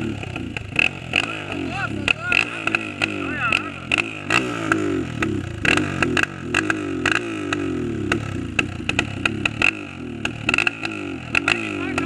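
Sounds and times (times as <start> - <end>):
engine knocks and clatter: 0.0 - 12.0
motorcycle engine revving: 0.0 - 12.0.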